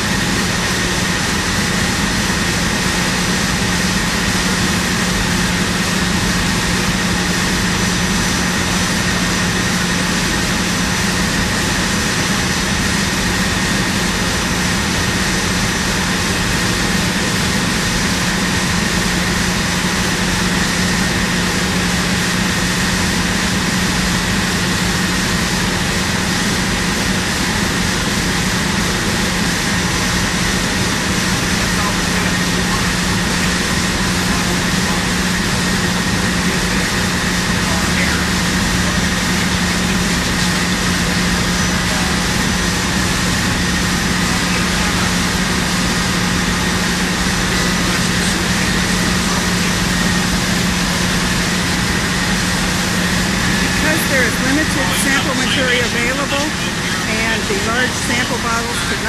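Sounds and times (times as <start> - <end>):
faint high whine: 0.0 - 59.0
machinery drone: 0.0 - 59.0.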